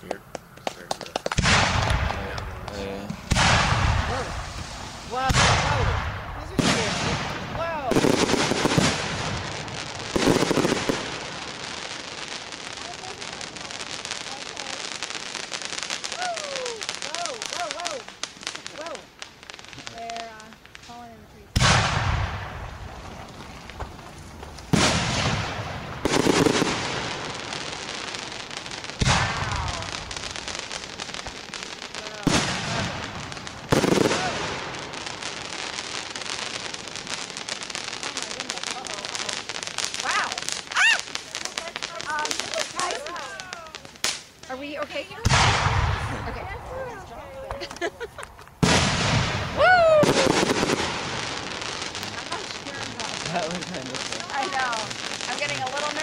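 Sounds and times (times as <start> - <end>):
firework crackling: 0.0 - 56.0.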